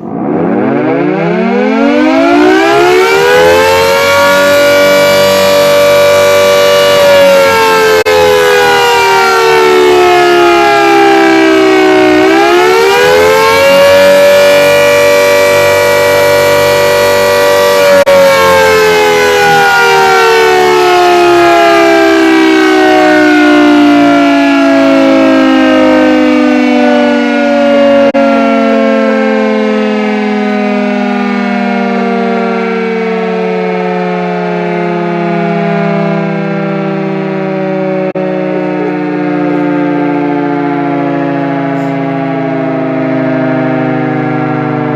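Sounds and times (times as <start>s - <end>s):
air raid siren wailing: 0.0s - 44.9s.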